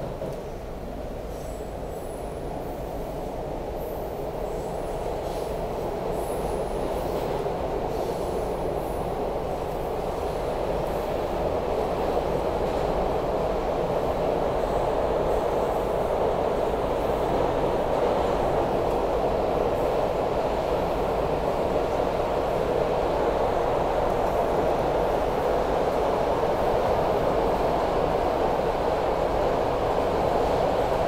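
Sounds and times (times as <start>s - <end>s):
subway car wheels rumbling: 0.0s - 31.0s.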